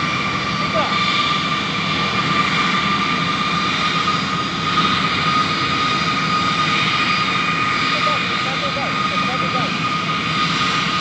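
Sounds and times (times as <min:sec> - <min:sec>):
high jet engine whine: 0:00.0 - 0:11.0
jet engines rushing hum: 0:00.0 - 0:11.0.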